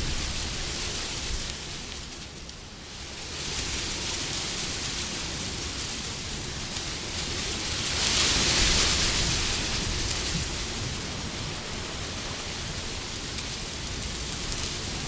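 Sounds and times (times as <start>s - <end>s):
wind blowing in gusts: 0.0s - 2.1s, 2.9s - 15.0s.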